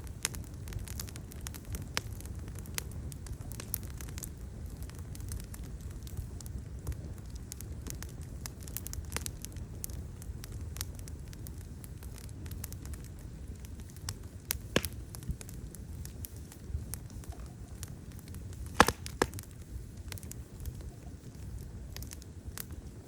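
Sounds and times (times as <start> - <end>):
fire crackling and popping: 0.0 - 23.0
rumble of flames: 0.0 - 23.0.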